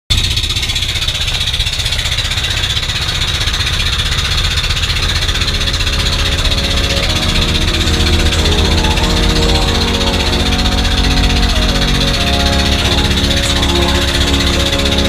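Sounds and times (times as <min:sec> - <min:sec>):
motorboat engine rumble: 0:00.2 - 0:15.0.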